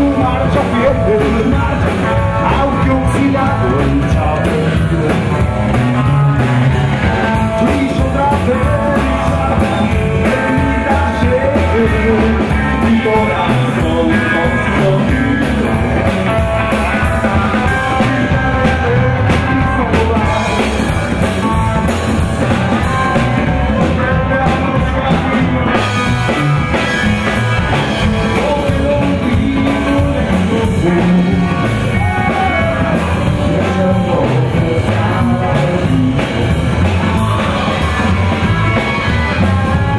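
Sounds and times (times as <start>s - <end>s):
drum kit: 0.0s - 39.9s
electric guitar: 0.0s - 39.9s
man singing lead vocal: 0.0s - 39.9s
upright bass: 0.0s - 39.9s.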